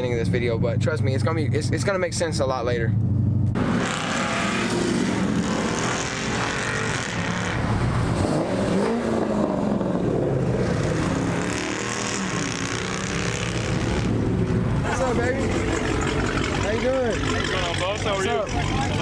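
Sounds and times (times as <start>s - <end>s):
car engines revving: 0.0s - 19.0s
road and motor noise: 0.0s - 19.0s.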